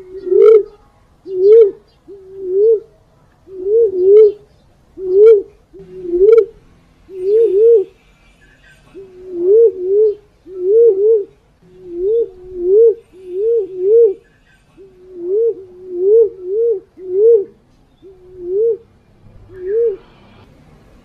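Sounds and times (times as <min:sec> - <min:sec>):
dove cooing hoots: 0:00.0 - 0:08.0, 0:08.6 - 0:20.3.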